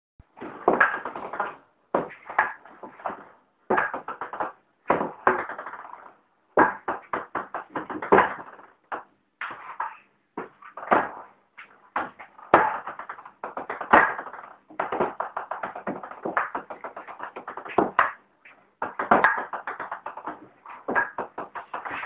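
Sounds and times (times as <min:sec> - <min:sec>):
ping-pong ball bouncing on table: 0:00.7 - 0:06.0, 0:06.6 - 0:11.2, 0:12.0 - 0:18.2, 0:18.8 - 0:22.0.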